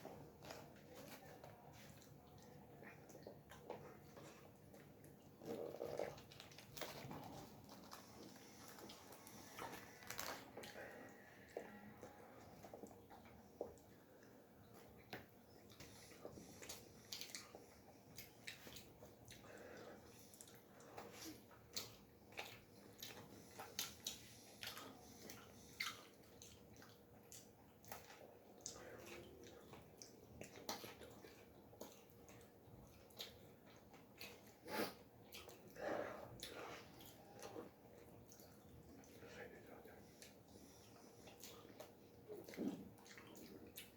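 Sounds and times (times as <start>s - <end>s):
mouth clicks and chewing: 0.0s - 43.9s.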